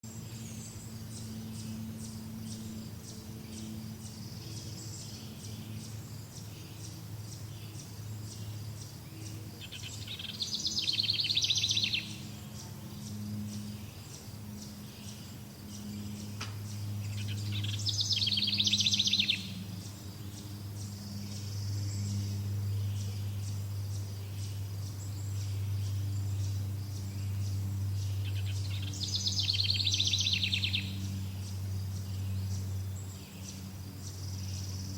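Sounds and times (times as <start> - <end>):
steady low hum: 0.0 - 34.9
songbird trilling: 0.3 - 34.9.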